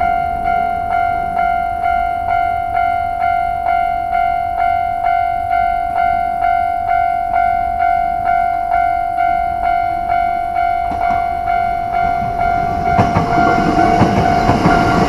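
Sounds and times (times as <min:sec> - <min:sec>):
level crossing warning bell: 0:00.0 - 0:15.0.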